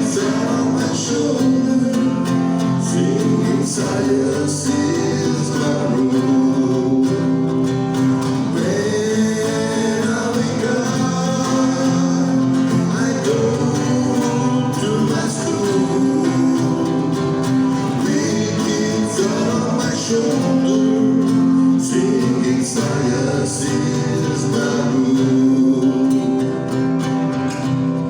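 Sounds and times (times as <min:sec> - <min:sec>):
person singing: 0:00.0 - 0:27.2
acoustic guitar strumming: 0:00.0 - 0:28.0.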